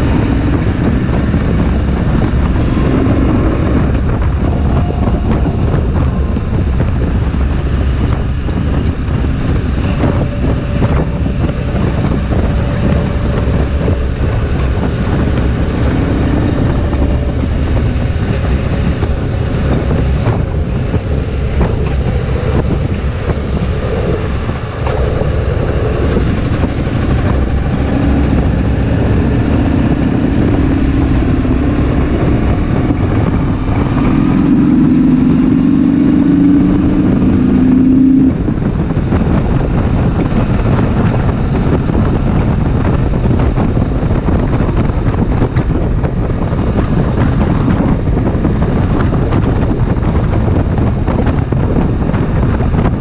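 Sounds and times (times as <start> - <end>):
motorcycle engine drone: 0.0 - 53.0
wind noise on microphone: 0.0 - 53.0.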